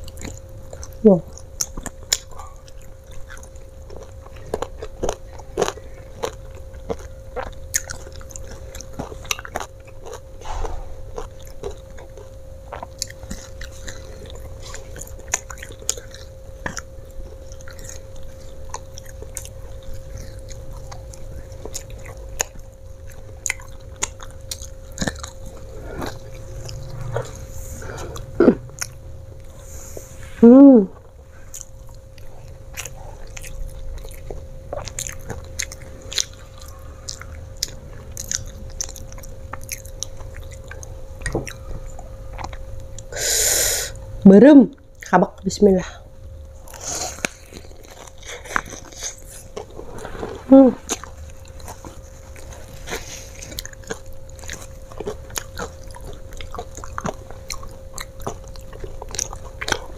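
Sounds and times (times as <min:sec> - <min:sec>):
chewing crispy fries: 0:00.0 - 0:43.6, 0:44.7 - 0:59.9
faint steady hum: 0:00.0 - 0:59.9.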